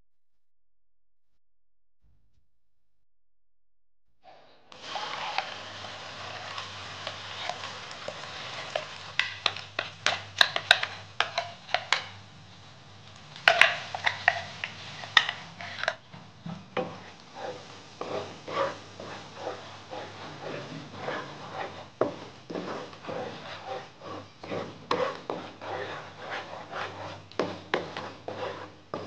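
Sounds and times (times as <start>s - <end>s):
wooden spatula scraping a pan: 4.3s - 12.7s, 13.4s - 29.0s
spice paste sizzling in hot oil: 4.8s - 16.0s, 16.8s - 29.0s.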